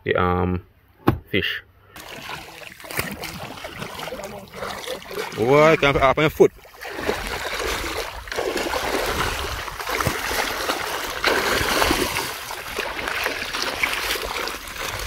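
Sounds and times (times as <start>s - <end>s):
water splashing and trickling: 2.0s - 15.0s.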